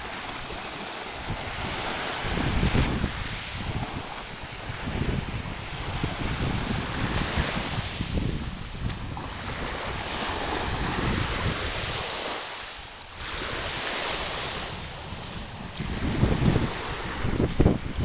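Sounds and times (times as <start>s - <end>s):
wind buffeting microphone: 0.0s - 12.4s, 13.0s - 18.0s
sea waves washing onto shore: 0.0s - 18.0s.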